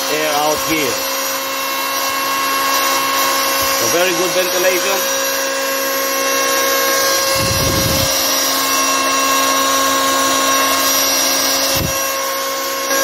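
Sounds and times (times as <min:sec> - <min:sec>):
electric hand planer running: 0:00.0 - 0:13.0.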